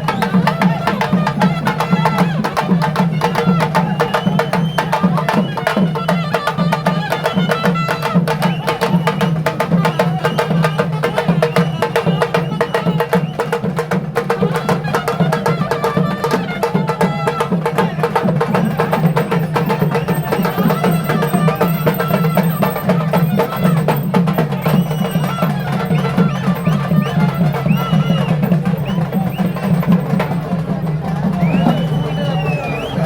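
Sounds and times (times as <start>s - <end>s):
fast dense drumming: 0.0s - 32.2s
voices chanting and calling: 0.0s - 33.0s.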